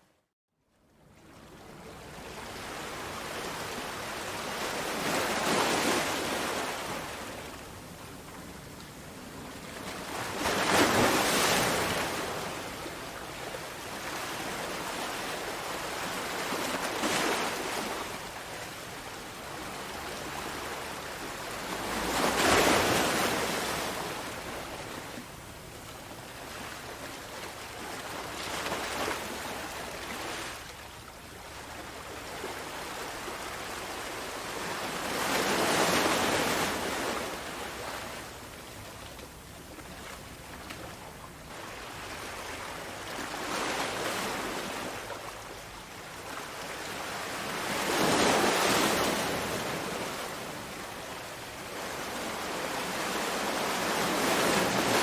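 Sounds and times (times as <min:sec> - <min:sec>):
sea waves breaking on shore: 0:01.2 - 0:55.0.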